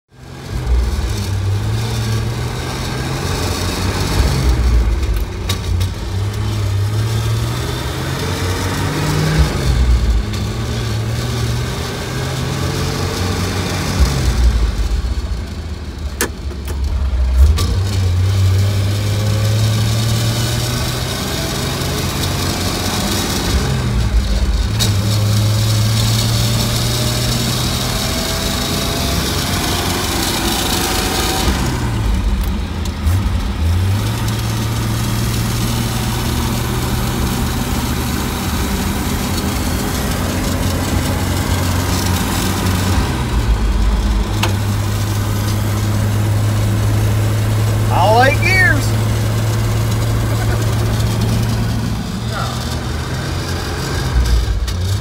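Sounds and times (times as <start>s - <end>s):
truck engine under load: 0.2s - 55.0s.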